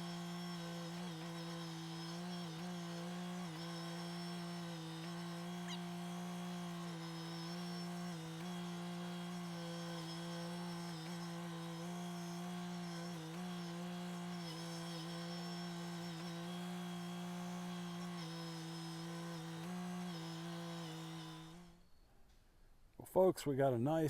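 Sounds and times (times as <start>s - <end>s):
chainsaw running at high revs: 0.0s - 21.9s.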